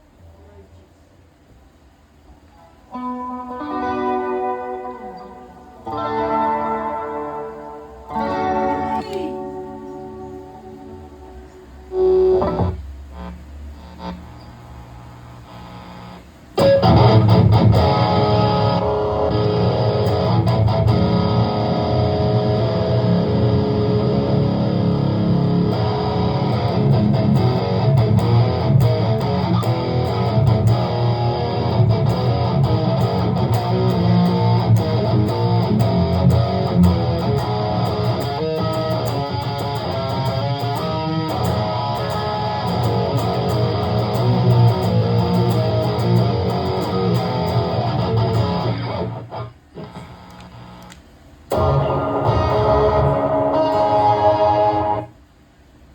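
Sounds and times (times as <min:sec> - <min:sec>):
electric guitar playing: 0:02.7 - 0:55.2.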